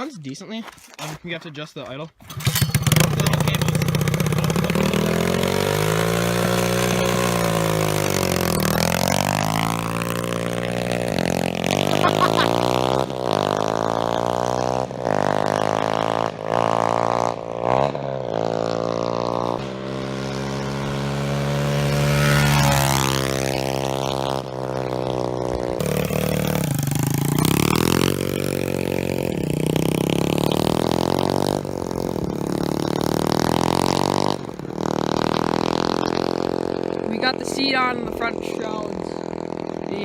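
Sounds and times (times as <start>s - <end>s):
motorbike engine revving: 2.2s - 40.0s.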